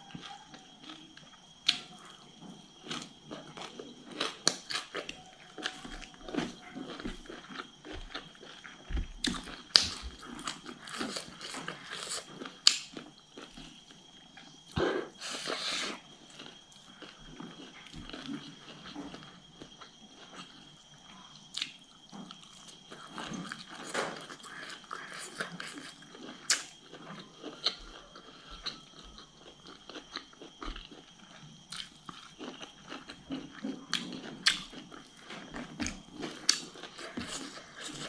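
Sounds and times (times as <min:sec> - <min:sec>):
crunchy chewing of bean pods: 0:00.0 - 0:38.0.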